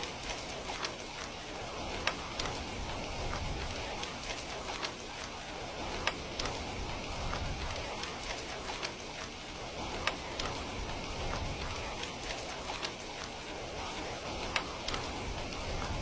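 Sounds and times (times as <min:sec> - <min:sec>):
heavy rain falling: 0:00.0 - 0:16.0
sharp raindrops: 0:00.0 - 0:16.0.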